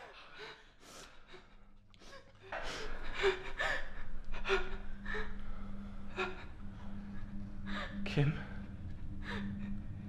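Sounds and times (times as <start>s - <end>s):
low steady hum: 0.1s - 10.0s.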